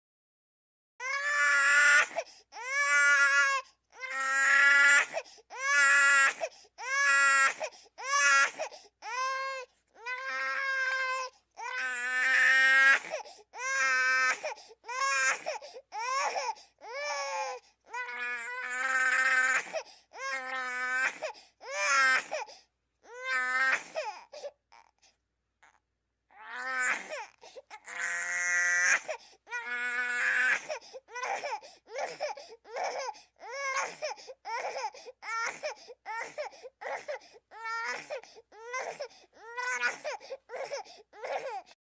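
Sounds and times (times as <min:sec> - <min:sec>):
baby crying: 0:01.0 - 0:25.0, 0:25.6 - 0:41.8.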